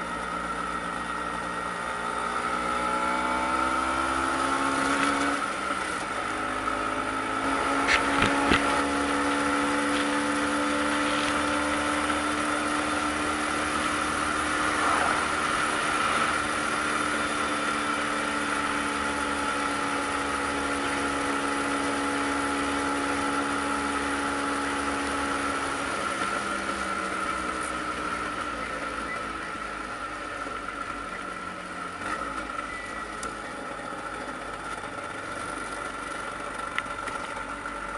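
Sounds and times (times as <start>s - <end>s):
two-stroke scooter engine running: 0.0s - 37.9s
wind and road noise: 0.0s - 37.9s.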